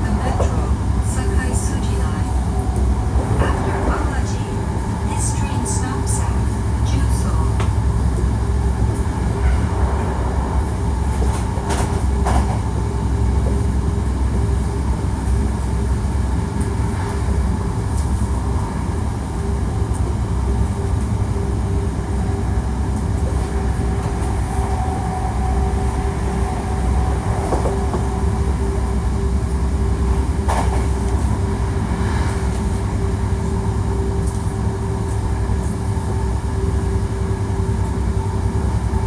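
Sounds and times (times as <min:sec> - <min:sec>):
train wheels rumbling: 0:00.0 - 0:39.0.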